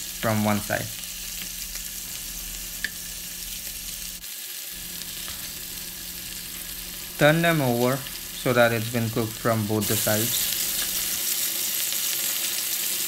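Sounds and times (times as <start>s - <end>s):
chicken sizzling in frying pan: 0.0s - 13.0s.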